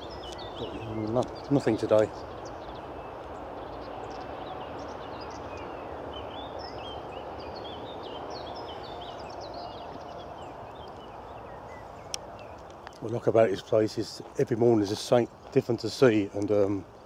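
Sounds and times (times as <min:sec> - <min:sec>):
outdoor background hiss: 0:00.0 - 0:17.0
songbirds singing and chirping: 0:00.0 - 0:17.0.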